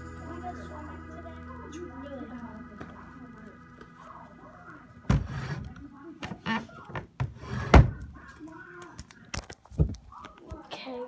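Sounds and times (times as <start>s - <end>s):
faint voices: 0.0s - 11.0s.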